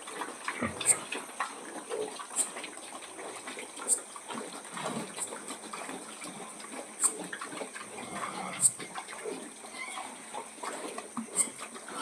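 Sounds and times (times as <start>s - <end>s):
pigs grunting and snuffling: 0.0s - 12.0s.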